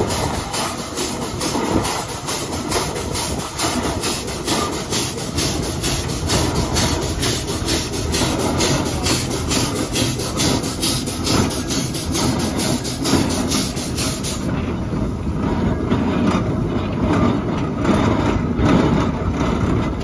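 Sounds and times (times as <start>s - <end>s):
steam engine exhaust chuffing: 0.0s - 20.0s.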